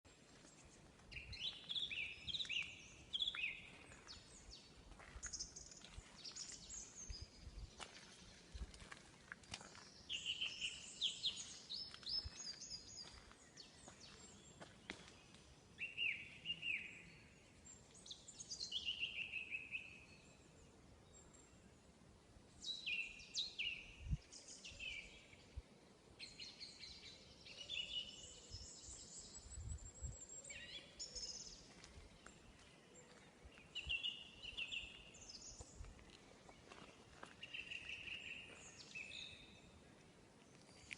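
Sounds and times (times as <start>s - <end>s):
songbirds singing: 0.1s - 40.9s.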